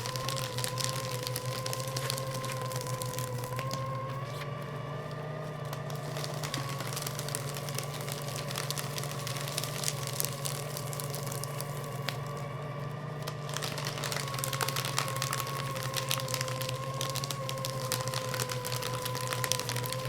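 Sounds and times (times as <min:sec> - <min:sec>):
cutters crunching paper: 0:00.0 - 0:20.0
paper shredder motor humming: 0:00.0 - 0:20.0.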